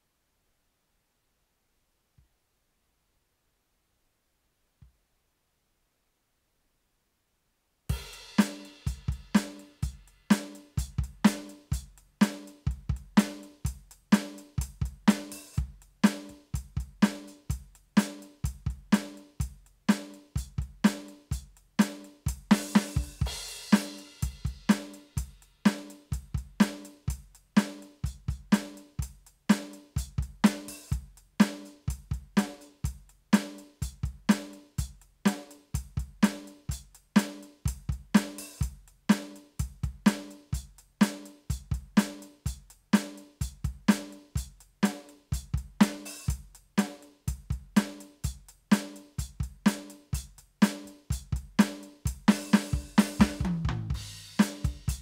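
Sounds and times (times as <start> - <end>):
electronic drum beat: 7.9 - 55.0.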